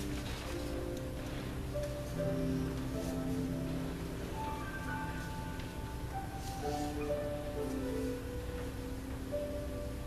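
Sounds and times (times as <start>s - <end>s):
slow live ensemble music: 0.0s - 10.0s.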